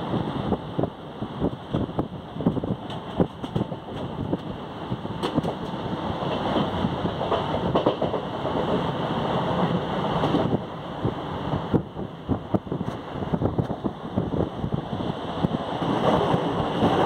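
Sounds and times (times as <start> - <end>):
wind on microphone: 0.0 - 9.0, 9.6 - 17.0
train wheels rumbling on rails: 0.0 - 17.0.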